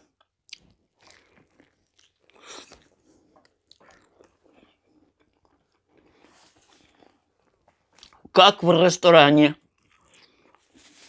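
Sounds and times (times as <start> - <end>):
faint wet chewing: 0.0 - 8.3, 9.6 - 11.0.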